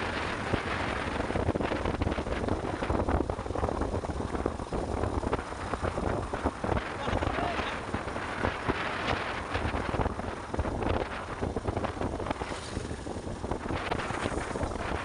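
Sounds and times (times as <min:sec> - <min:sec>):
road and engine noise: 0:00.0 - 0:15.0
wind buffeting microphone: 0:00.0 - 0:15.0.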